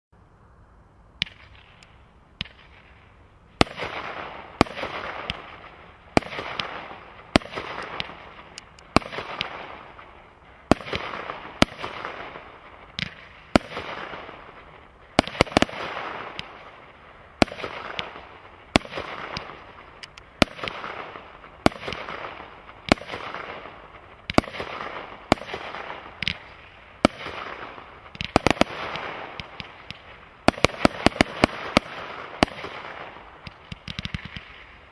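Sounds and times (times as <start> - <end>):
small firework pops: 1.2 - 3.0, 3.6 - 10.1, 10.7 - 14.6, 15.2 - 16.7, 17.4 - 34.8
volley of firework bangs: 3.6 - 34.9.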